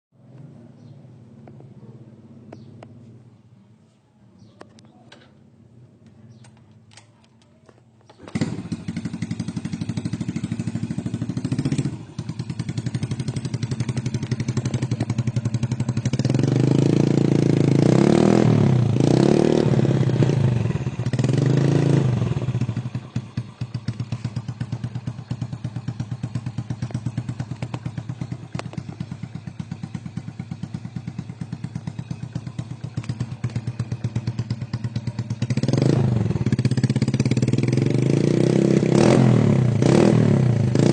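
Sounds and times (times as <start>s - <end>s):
motorcycle engine starting and idling: 4.5s - 40.9s
motorcycle engine revving: 8.1s - 40.9s.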